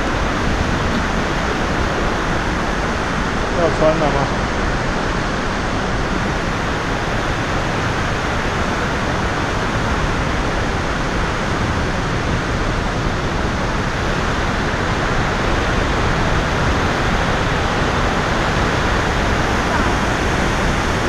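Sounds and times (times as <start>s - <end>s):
waterfall and rapids roaring: 0.0s - 21.0s.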